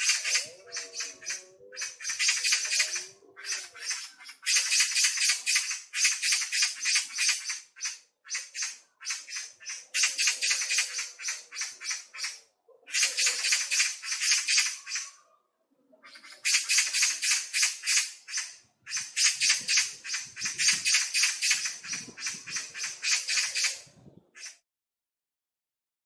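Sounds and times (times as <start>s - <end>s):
songbird chirping: 0.0s - 24.6s.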